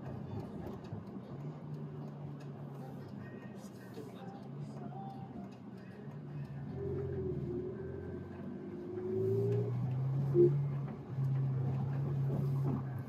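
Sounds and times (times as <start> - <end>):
car engine from inside cabin: 0.0 - 13.0.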